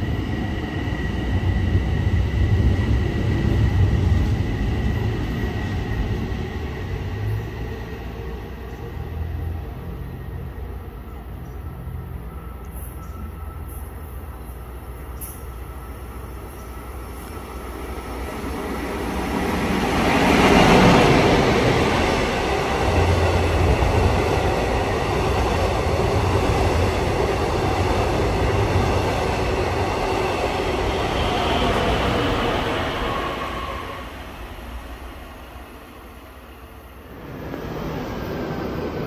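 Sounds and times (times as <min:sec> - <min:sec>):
train passing: 0:00.0 - 0:39.0.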